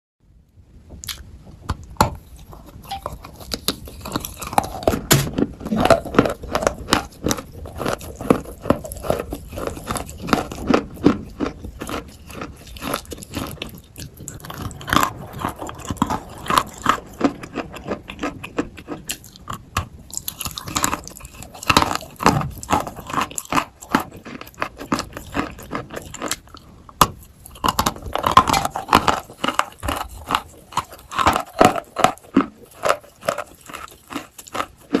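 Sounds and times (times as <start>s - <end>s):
person chewing crunchy chalk: 1.0s - 35.0s.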